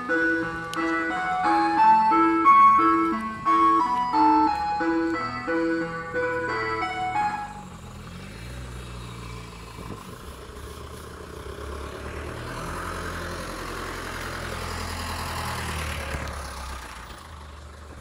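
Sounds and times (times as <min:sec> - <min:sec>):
van engine driving past: 0:00.0 - 0:18.0.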